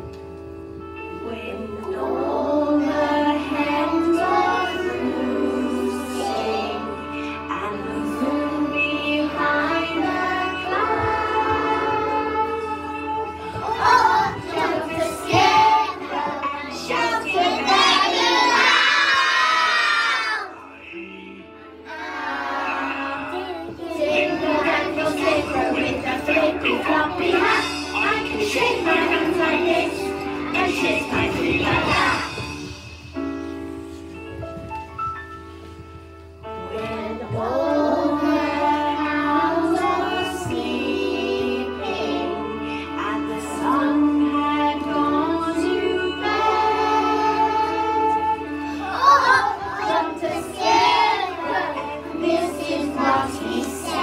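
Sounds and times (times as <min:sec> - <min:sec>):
recorded backing track: 0:00.0 - 0:54.0
children singing: 0:01.2 - 0:32.6, 0:36.6 - 0:54.0.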